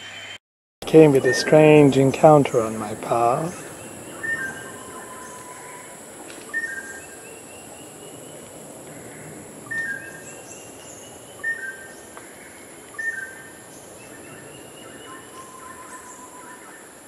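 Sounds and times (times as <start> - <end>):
insects humming: 0.2 - 17.0.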